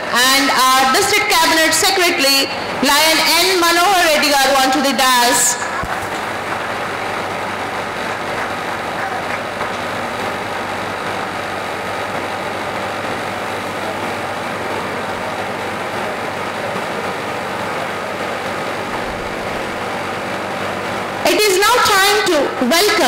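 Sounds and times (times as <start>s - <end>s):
air conditioner humming: 0.0s - 23.0s.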